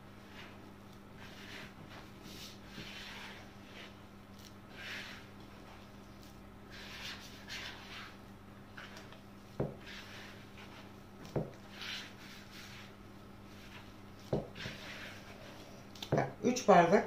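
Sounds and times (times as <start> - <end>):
hands kneading dough: 0.0 - 16.9.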